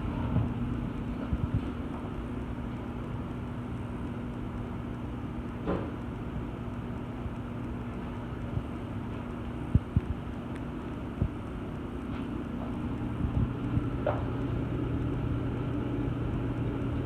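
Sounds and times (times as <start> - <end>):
washer and dryer motor hum: 0.0 - 17.0.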